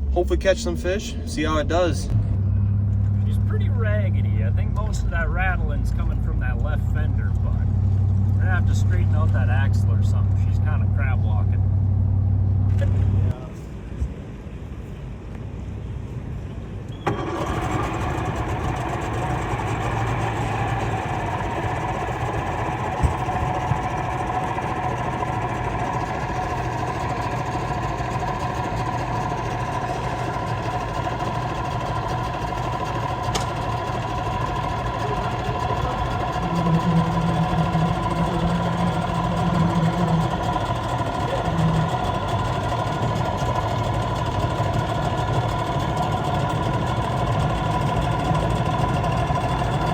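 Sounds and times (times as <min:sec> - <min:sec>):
outboard motor running: 0:00.0 - 0:13.5, 0:17.0 - 0:49.9.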